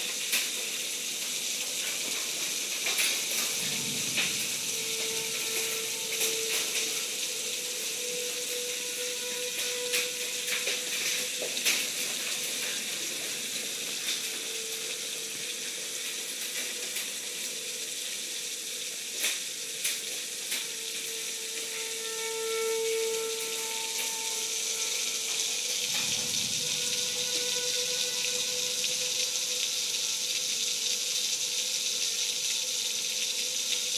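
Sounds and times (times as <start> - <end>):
hailstones ticking: 0.0 - 21.7, 24.0 - 33.9
heavy rain hiss: 0.0 - 33.9
distant warning siren wailing: 3.4 - 17.8, 20.3 - 33.8.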